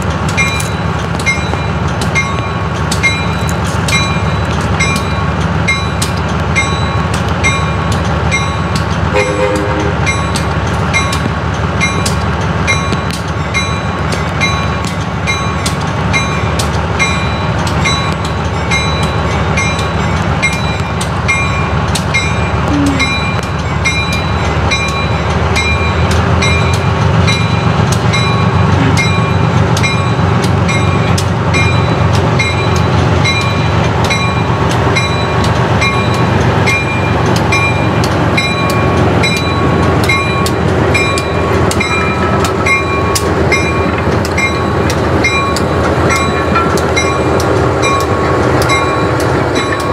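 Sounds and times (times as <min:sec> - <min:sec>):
diesel locomotive engine: 0:00.0 - 0:49.9
locomotive bell ringing: 0:00.0 - 0:49.9.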